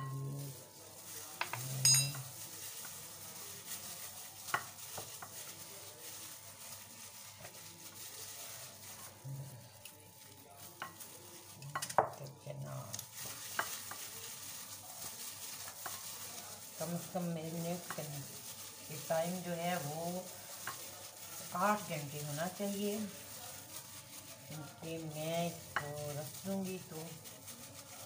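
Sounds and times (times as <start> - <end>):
wet squishing and stirring: 0.0 - 28.0.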